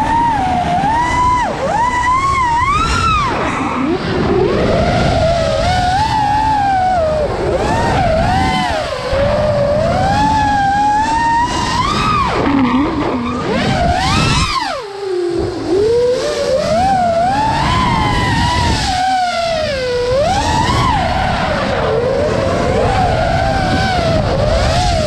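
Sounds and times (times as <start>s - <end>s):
drone propellers whining: 0.0s - 25.0s
wind rushing: 0.0s - 25.0s.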